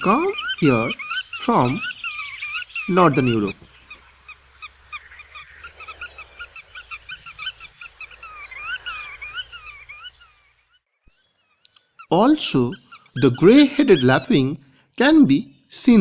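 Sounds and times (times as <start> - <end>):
godwits calling: 0.0 - 16.0.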